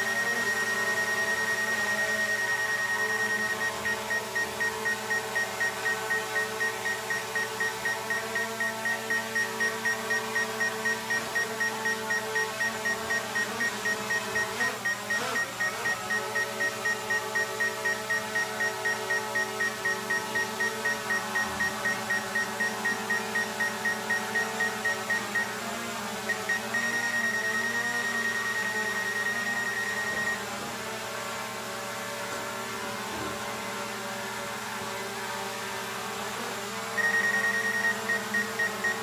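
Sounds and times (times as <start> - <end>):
high warning tone beeping: 0.0 - 25.6, 26.2 - 30.4, 37.0 - 39.0.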